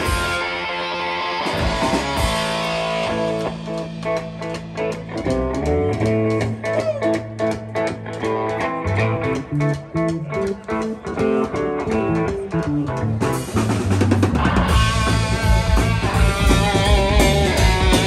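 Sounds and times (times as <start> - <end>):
electric guitar: 0.0 - 18.0.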